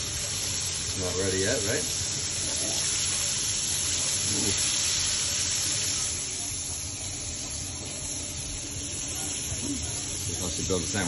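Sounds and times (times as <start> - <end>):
fish deep-frying in hot oil: 0.0 - 11.0.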